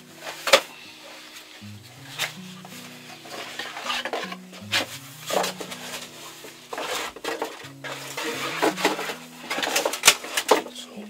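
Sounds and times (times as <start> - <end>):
packaging rustling and scraping: 0.0 - 10.8
background music with held notes: 0.0 - 11.0.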